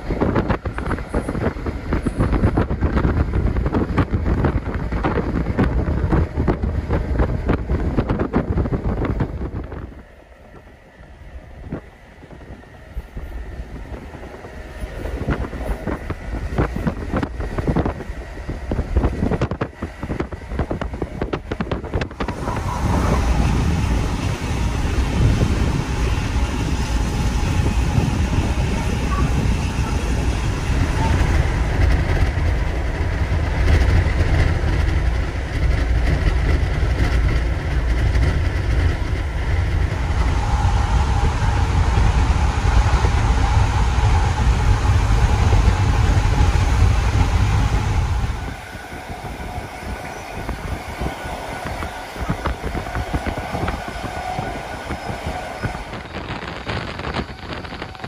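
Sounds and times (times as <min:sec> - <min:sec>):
train rolling on rails: 0:00.0 - 0:58.0
wind on microphone: 0:00.0 - 0:58.0.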